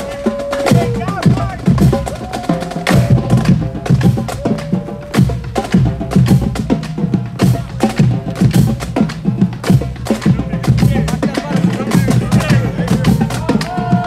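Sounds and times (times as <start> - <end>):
drumline playing a cadence: 0.0 - 14.0.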